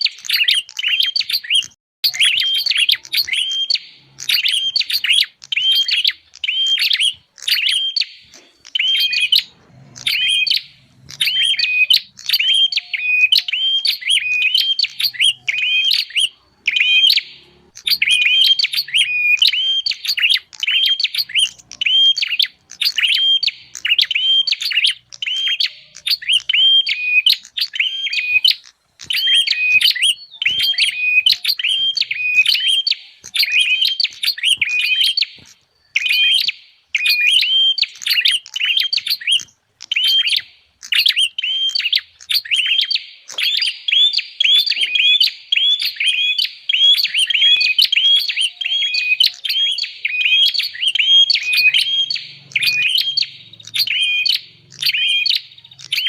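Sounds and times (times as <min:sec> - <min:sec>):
high bird chirping: 0:00.0 - 0:56.0.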